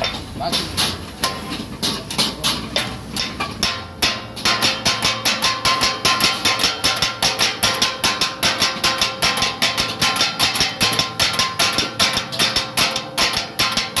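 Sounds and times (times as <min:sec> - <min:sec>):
steel blades clanging on griddle: 0:00.0 - 0:14.0.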